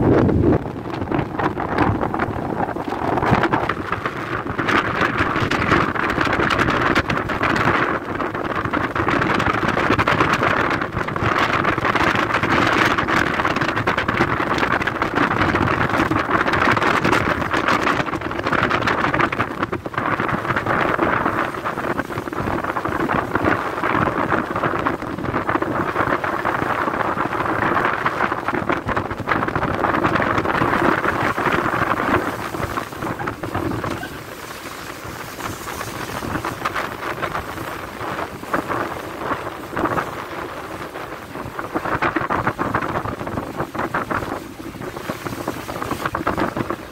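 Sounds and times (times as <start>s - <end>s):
heavy seas churning against hull: 0.0s - 46.9s
wind buffeting microphone: 0.0s - 46.9s.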